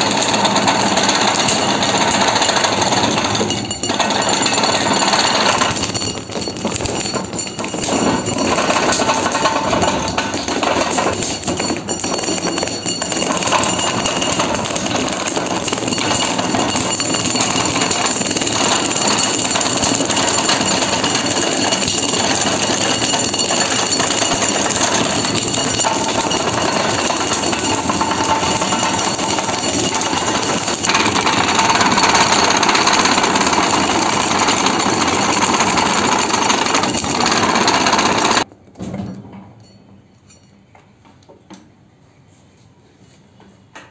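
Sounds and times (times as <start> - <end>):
tyre cutting machine noise: 0.0 - 38.5.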